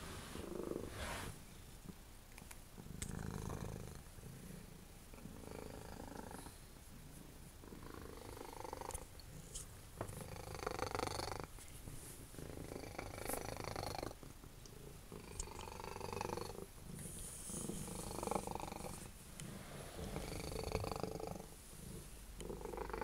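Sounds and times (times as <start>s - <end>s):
cat purring: 0.0s - 2.0s, 2.8s - 11.5s, 12.3s - 23.0s.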